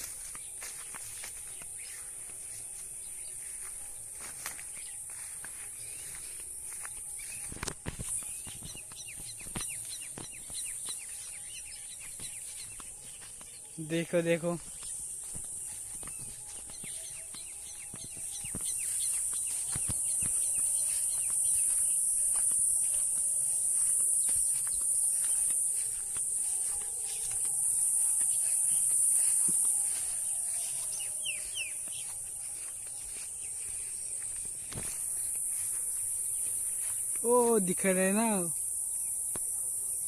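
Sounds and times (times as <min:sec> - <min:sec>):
bird chirps: 0:00.0 - 0:39.2
insects droning: 0:00.0 - 0:40.0.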